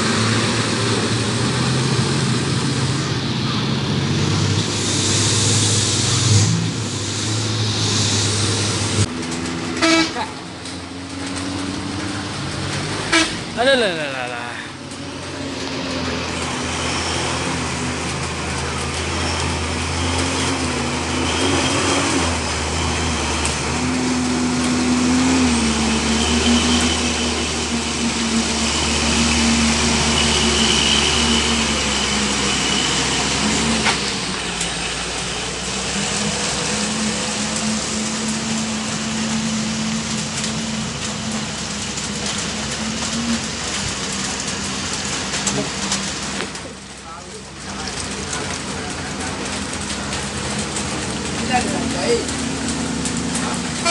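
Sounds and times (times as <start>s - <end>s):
truck diesel engine running: 0.0s - 53.9s.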